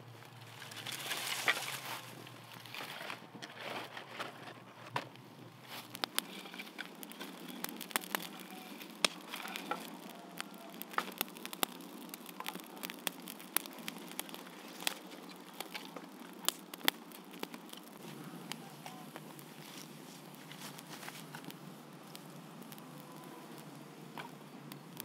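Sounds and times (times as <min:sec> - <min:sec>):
campfire crackling and popping: 0:00.0 - 0:25.0
low steady fire hiss: 0:00.0 - 0:25.0.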